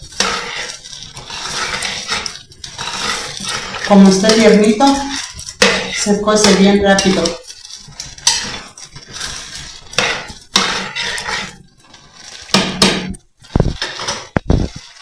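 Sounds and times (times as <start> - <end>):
kitchenware clinks and scrapes: 0.0 - 15.0
spoon stirring in a pot: 0.0 - 15.0.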